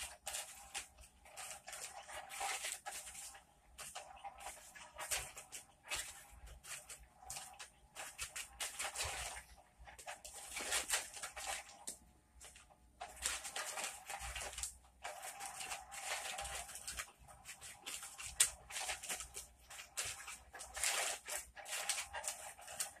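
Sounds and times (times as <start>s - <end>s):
fabric rustling and scratching: 0.0s - 23.0s.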